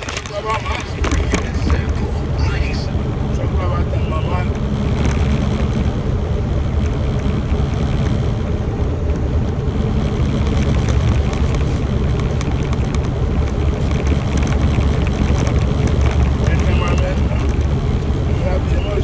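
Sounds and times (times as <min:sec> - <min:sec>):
truck engine and tyre rumble: 0:00.0 - 0:19.0.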